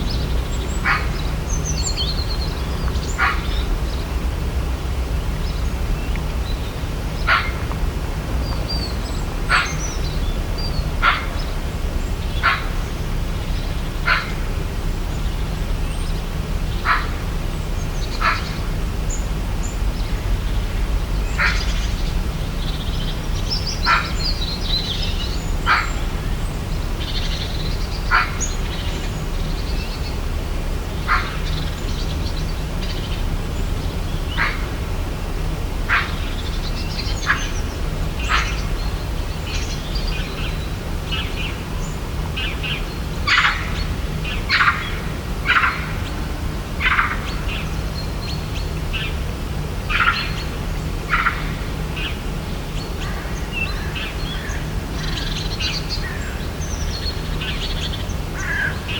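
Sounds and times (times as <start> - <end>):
steady low rumble: 0.0 - 58.9.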